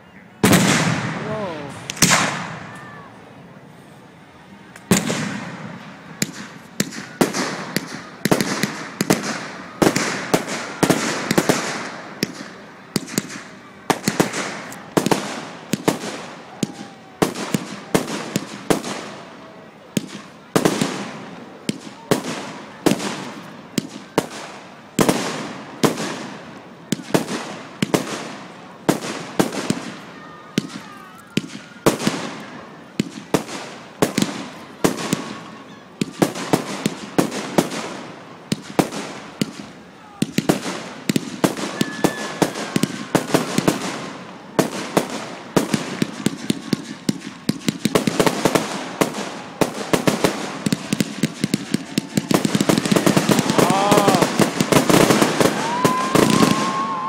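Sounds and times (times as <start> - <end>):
firework shells booming: 0.4 - 2.8, 4.8 - 19.2, 20.0 - 57.0.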